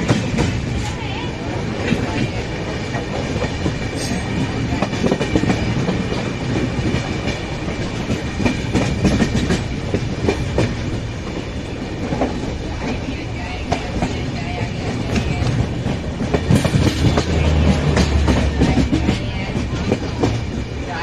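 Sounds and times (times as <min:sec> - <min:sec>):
train rumble: 0:00.0 - 0:21.0
train wheels clattering: 0:00.0 - 0:21.0.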